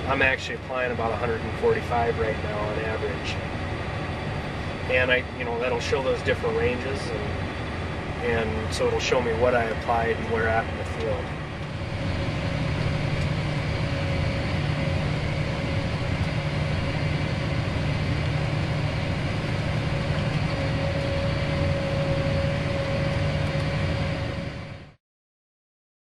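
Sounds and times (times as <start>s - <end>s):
thin whine: 0.0s - 25.0s
tractor engine drone: 0.0s - 25.0s.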